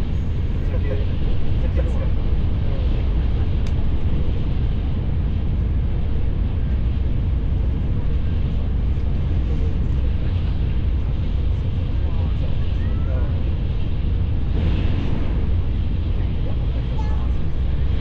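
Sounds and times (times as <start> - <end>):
train rumbling and rushing: 0.0 - 18.0.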